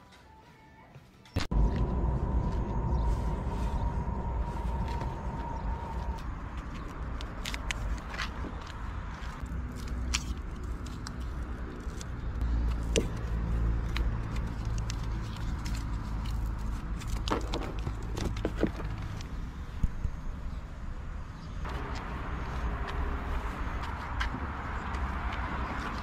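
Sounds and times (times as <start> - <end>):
vehicle engine humming: 1.4 - 26.0.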